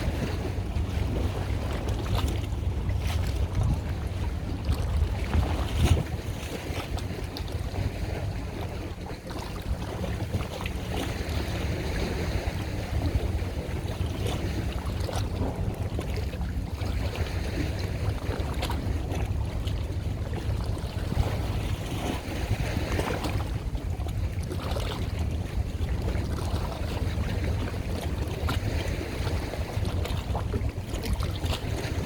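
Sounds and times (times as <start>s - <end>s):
boat running: 0.0s - 32.0s
wind buffeting microphone: 0.0s - 32.0s.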